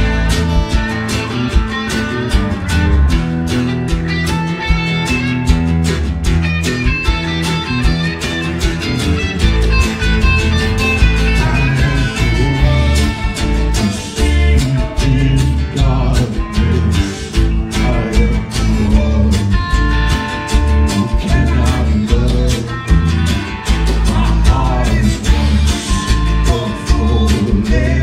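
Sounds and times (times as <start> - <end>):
acoustic guitar: 0.0 - 28.0
drum kit beat: 0.0 - 28.0
electric bass: 0.0 - 28.0
electric guitar: 0.0 - 28.0.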